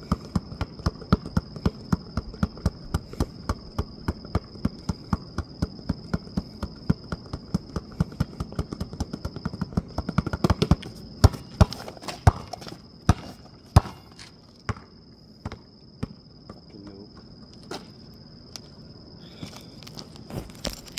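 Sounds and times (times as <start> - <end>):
basketball bouncing on pavement: 0.0 - 18.0
insect trill: 0.0 - 20.9.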